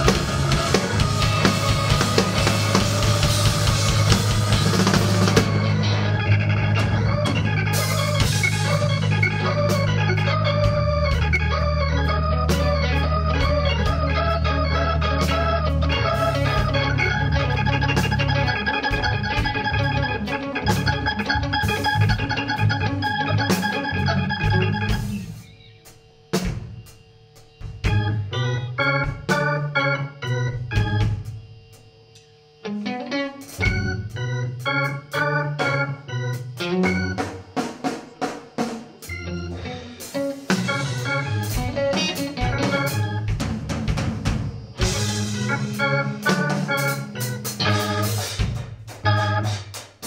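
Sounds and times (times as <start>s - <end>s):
drums: 0.0s - 50.0s
organ keyboard chords: 0.0s - 50.0s.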